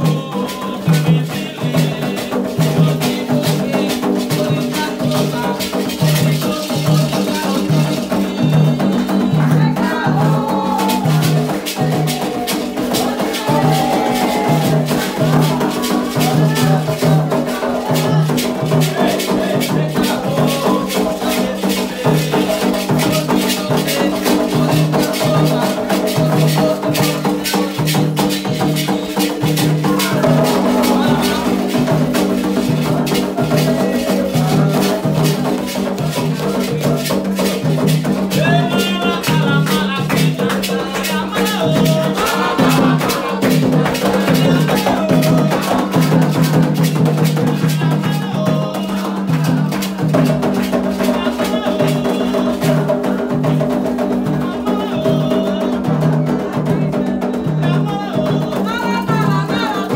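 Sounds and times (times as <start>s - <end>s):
rattles shaken rhythmically: 0.0s - 59.9s
voices chanting: 3.7s - 53.4s.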